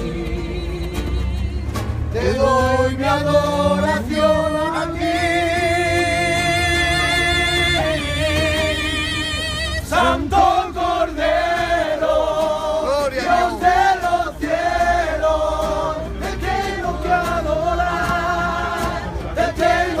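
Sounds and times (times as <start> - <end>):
acoustic guitar strumming: 0.0 - 20.0
group singing in unison: 0.0 - 20.0.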